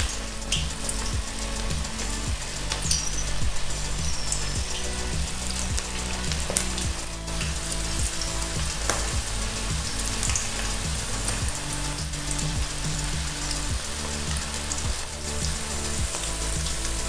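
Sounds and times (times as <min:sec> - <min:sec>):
okra sizzling in hot oil: 0:00.0 - 0:17.0.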